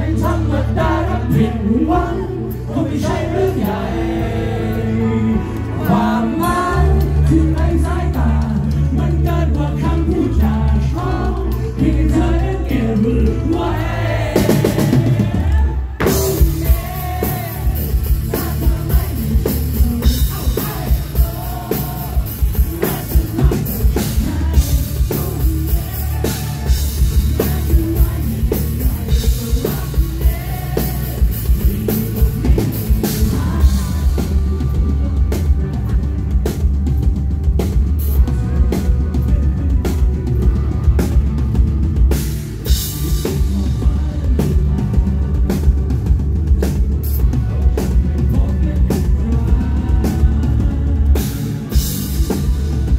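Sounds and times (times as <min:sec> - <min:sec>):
live rock band playing: 0:00.0 - 0:52.9
man singing: 0:00.0 - 0:52.9.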